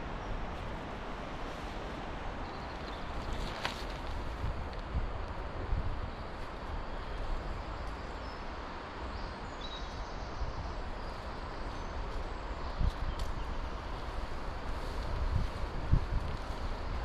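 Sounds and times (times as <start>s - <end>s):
wind rumbling on microphone: 0.0s - 17.0s
woodland rustling hiss: 0.0s - 17.0s.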